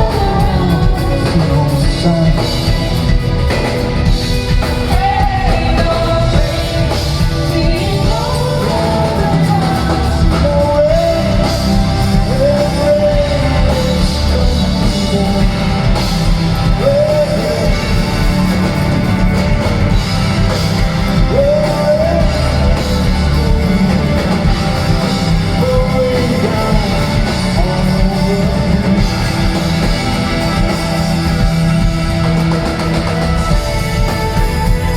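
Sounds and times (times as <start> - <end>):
live rock band playing: 0.0 - 34.9
sliding lead melody: 0.0 - 34.9.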